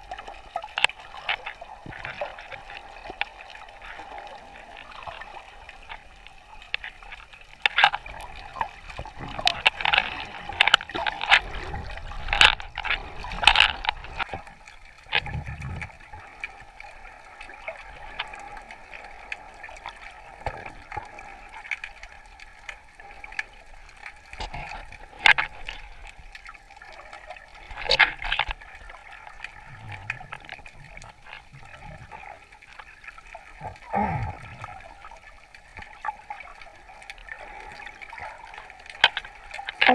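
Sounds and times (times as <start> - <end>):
seawater sloshing and gurgling: 0.0 - 39.9
sharp underwater clicks and pops: 0.0 - 39.9.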